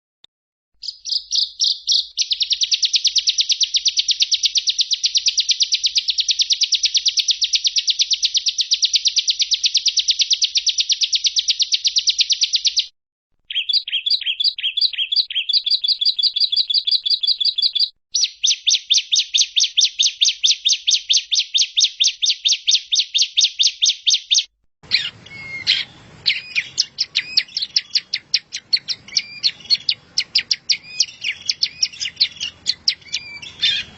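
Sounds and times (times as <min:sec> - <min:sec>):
recorded songbird chirping: 0:00.8 - 0:33.9.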